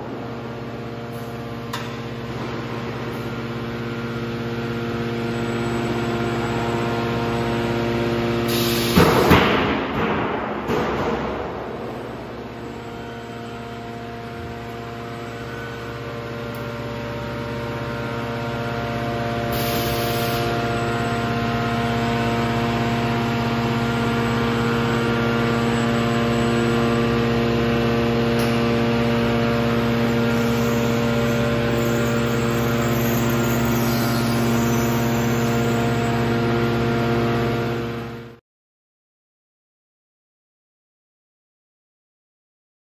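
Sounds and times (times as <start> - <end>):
machinery motor and hydraulic hum: 0.0 - 38.4.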